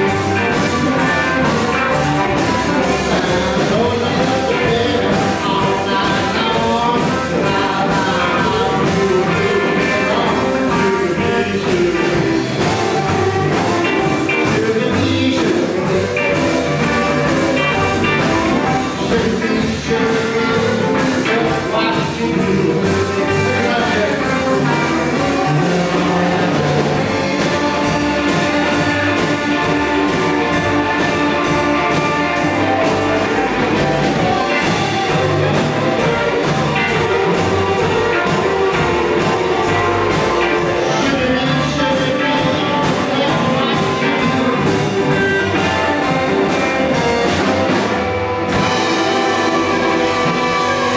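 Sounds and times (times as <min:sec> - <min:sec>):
drums keeping a steady beat: 0:00.0 - 0:50.9
electric guitars: 0:00.0 - 0:50.9
upright bass: 0:00.0 - 0:50.9.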